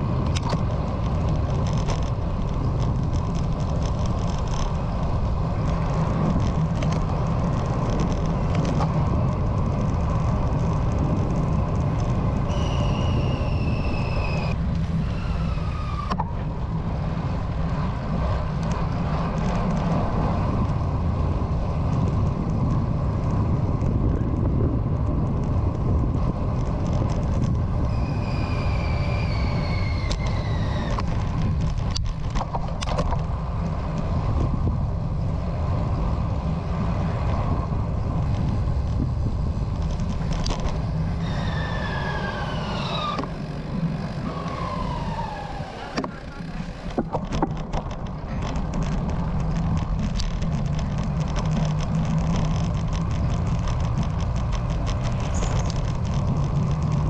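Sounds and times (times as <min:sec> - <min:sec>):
passing traffic: 0:00.0 - 0:57.0
tyre noise: 0:00.0 - 0:57.0
wind buffeting microphone: 0:00.0 - 0:57.0.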